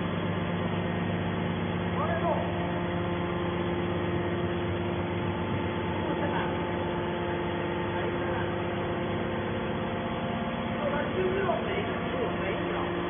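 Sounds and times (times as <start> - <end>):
motor and hydraulic pump humming: 0.0 - 13.0.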